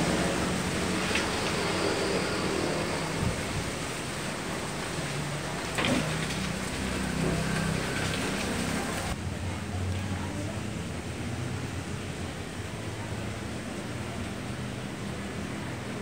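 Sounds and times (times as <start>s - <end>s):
wind and light drizzle: 0.0s - 16.0s.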